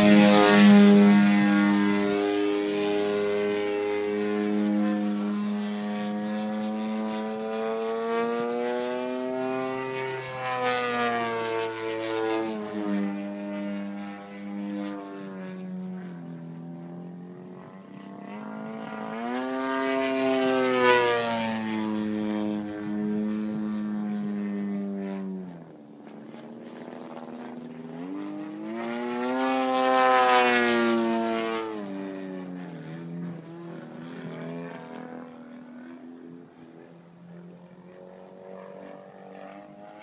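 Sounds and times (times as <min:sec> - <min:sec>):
propeller engine revving: 0:00.0 - 0:40.0.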